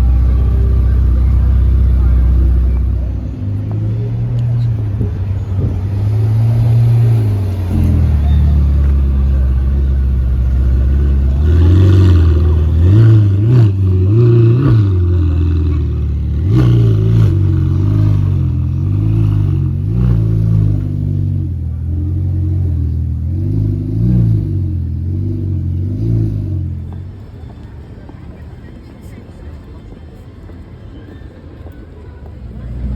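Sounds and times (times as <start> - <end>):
car engine revving: 0.0 - 27.3.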